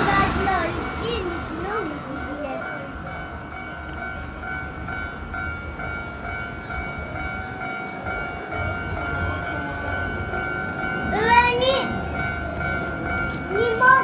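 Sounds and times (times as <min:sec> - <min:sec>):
level crossing warning bell ringing: 0:00.0 - 0:14.0
train rumbling past: 0:00.0 - 0:14.0.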